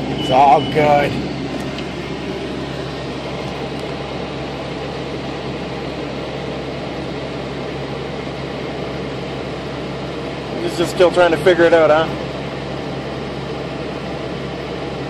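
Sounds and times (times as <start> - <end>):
car wash machinery: 0.0 - 15.0
constant low hum: 0.0 - 15.0.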